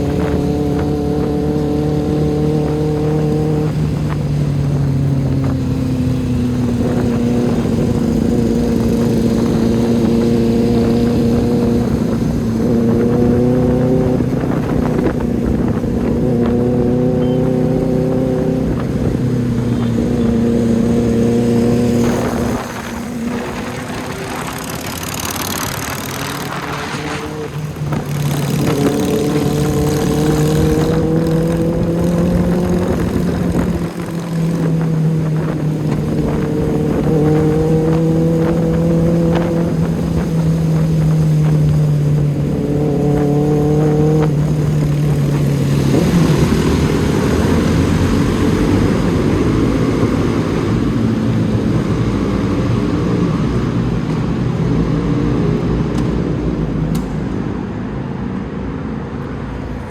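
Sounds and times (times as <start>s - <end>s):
loud motorcycle engine in tunnel: 0.0s - 59.9s.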